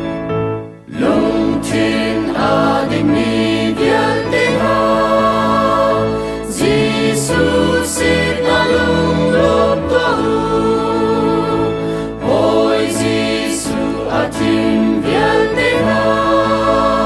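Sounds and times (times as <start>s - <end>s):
piano accompaniment: 0.0s - 17.0s
choir singing a hymn: 0.9s - 17.0s.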